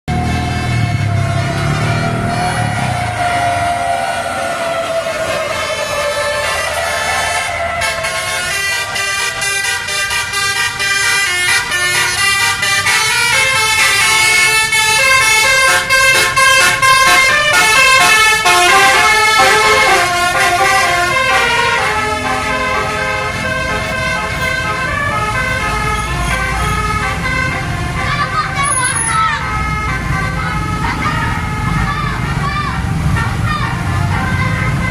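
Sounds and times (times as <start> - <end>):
musical bus horn playing a tune: 0.1 - 34.9.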